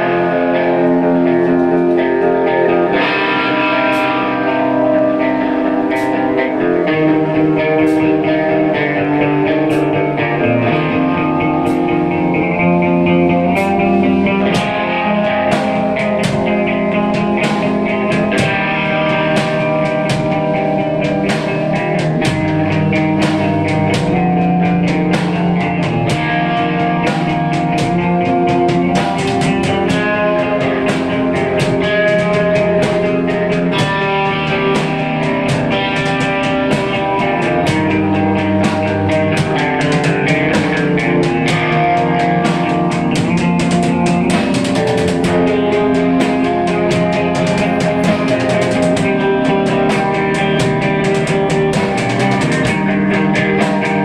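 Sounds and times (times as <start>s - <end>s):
distorted electric guitars: 0.0s - 54.0s
drum kit beat: 0.0s - 54.0s.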